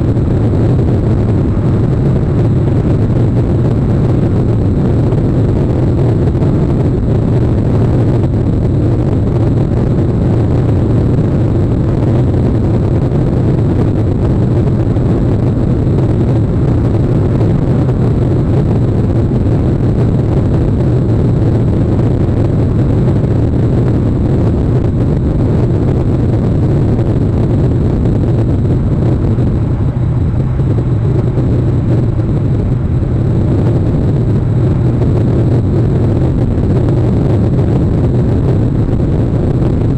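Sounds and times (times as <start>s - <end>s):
steady low rumbling: 0.0s - 39.9s.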